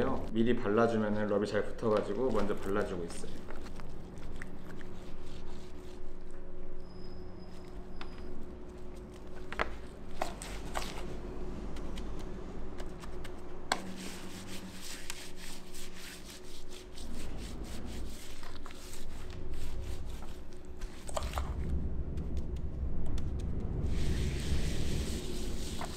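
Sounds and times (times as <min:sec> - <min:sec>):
hands rubbing meat: 0:01.6 - 0:06.4, 0:08.4 - 0:25.9.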